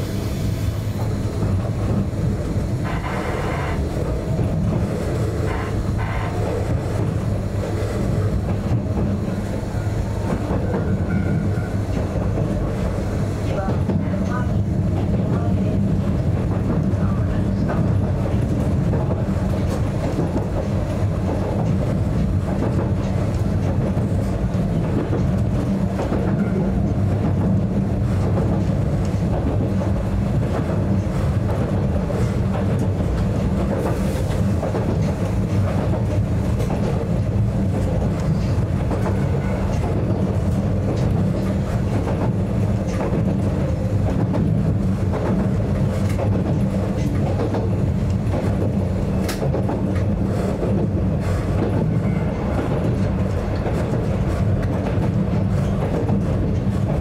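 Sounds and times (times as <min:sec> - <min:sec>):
train motors and wheels rumbling: 0:00.0 - 0:57.0.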